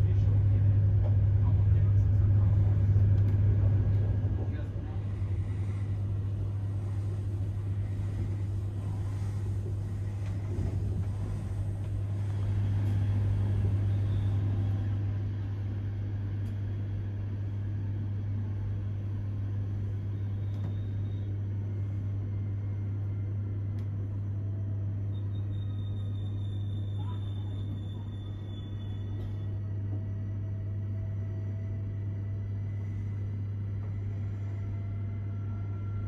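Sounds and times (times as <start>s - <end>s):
train carriage hum and rumble: 0.0s - 36.0s.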